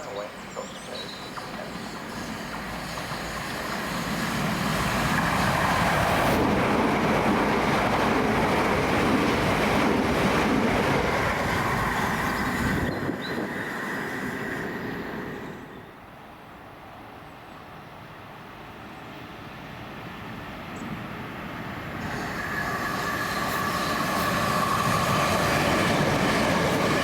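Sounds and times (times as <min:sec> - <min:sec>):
train wheels rushing on rails: 0:00.0 - 0:15.9, 0:19.5 - 0:27.0.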